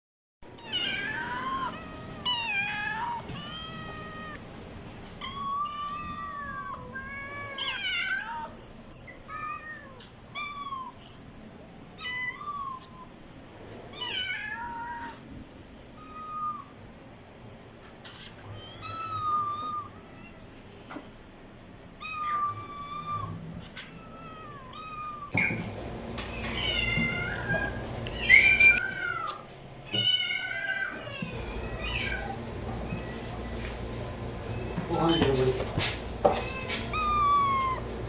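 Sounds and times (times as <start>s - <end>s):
kittens and cats meowing: 0.5s - 11.3s, 11.9s - 13.3s, 13.9s - 15.3s, 15.9s - 16.9s, 18.0s - 20.6s, 22.0s - 38.0s.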